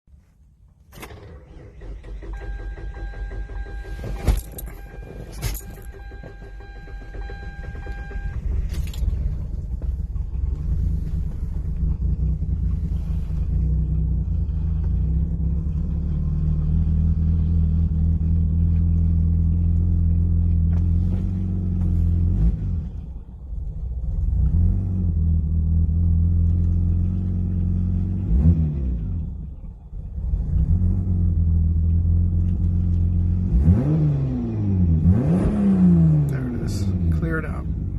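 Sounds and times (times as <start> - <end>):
car engine rumbling: 0.1 - 37.9
engine throttle blips: 0.9 - 37.9.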